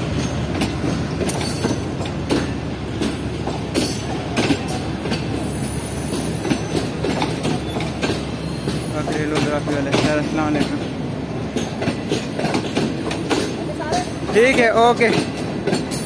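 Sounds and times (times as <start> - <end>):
train rumble: 0.0 - 16.0
train wheels clacking on rail joints: 0.0 - 16.0.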